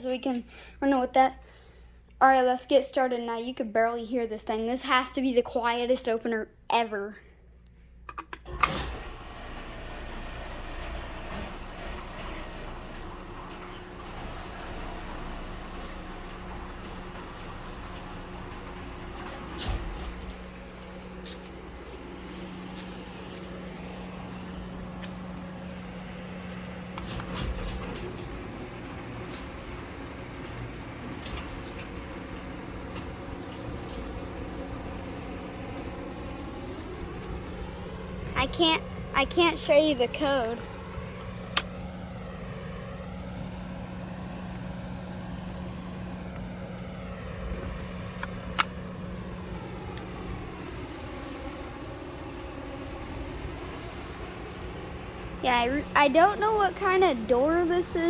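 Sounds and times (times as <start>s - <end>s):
garage door opener humming: 8.4s - 58.0s.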